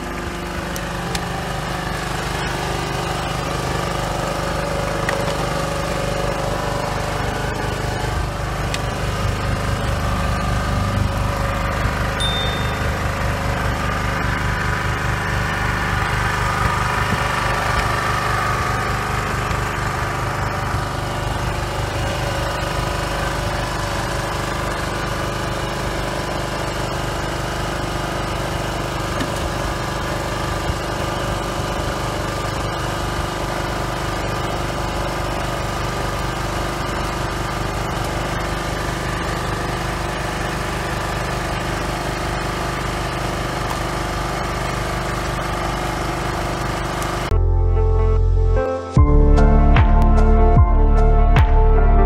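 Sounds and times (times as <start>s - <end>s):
small engine running: 0.0s - 47.4s.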